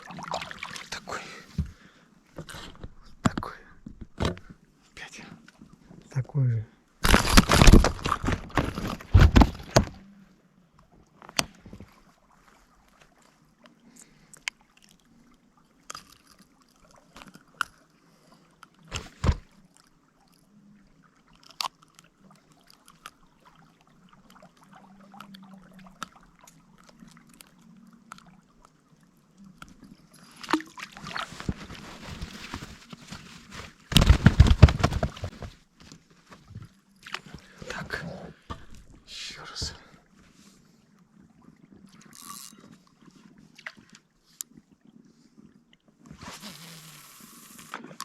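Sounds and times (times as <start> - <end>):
water sloshing and splashing: 0.0 - 6.1, 7.0 - 46.4.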